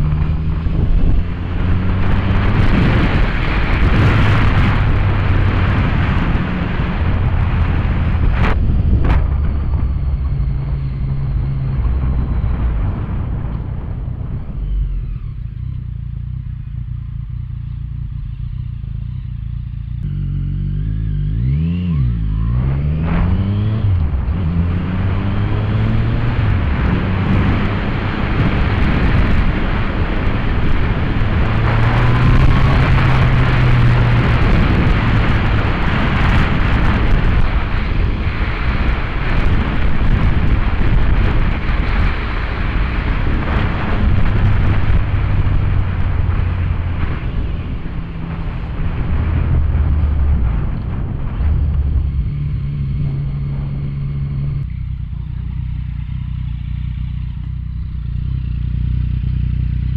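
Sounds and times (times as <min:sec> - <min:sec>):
wind noise on microphone: 0:00.0 - 0:17.2, 0:20.9 - 0:59.9
motorcycle engine running: 0:00.0 - 0:59.9.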